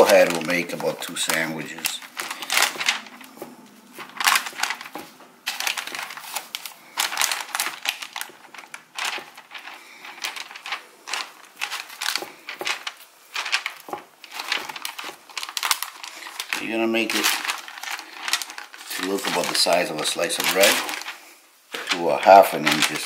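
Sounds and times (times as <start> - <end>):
parchment paper crinkling: 0.0 - 23.0.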